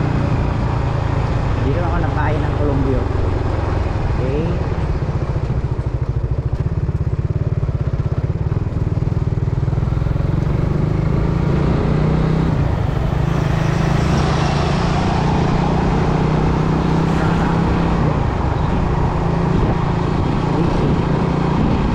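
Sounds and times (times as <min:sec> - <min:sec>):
motorcycle engine running: 0:00.0 - 0:21.9
wind and road noise: 0:00.0 - 0:21.9.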